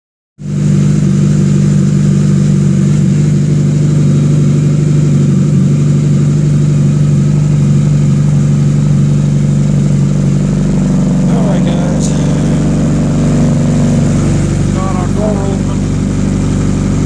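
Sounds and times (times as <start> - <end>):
engine humming steadily: 0.4 - 17.0.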